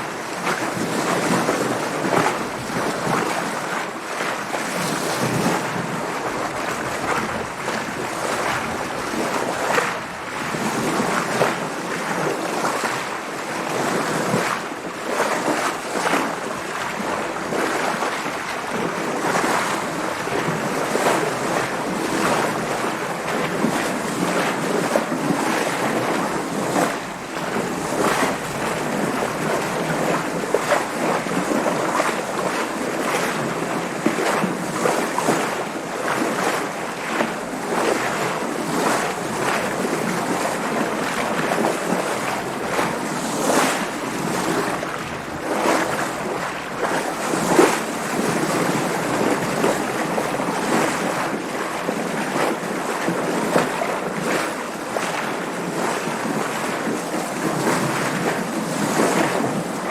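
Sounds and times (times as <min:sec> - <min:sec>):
water splashing around boat: 0:00.0 - 0:59.9
wind: 0:00.0 - 0:59.9.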